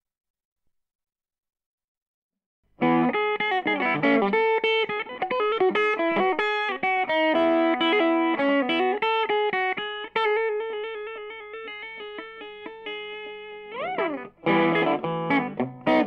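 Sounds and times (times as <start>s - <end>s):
plucked string music: 2.8s - 16.0s.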